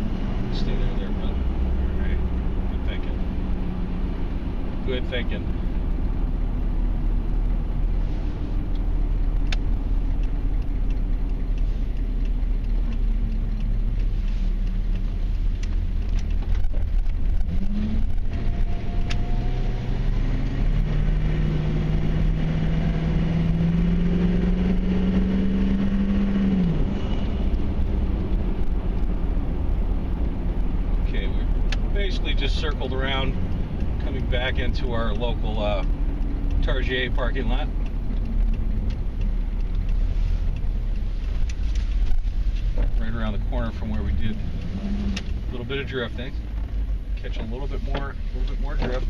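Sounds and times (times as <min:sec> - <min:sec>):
truck diesel engine rumbling: 0:00.0 - 0:49.0.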